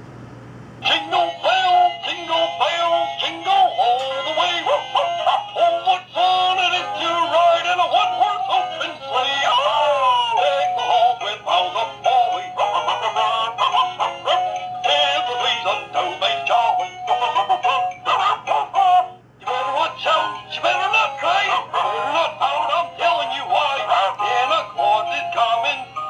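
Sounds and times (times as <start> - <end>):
high-pitched synthetic singing voice: 0.8 - 26.0.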